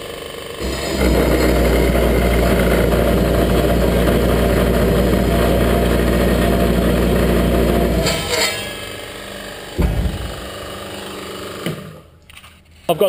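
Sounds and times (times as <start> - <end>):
circular saw cutting metal: 0.0 - 12.2.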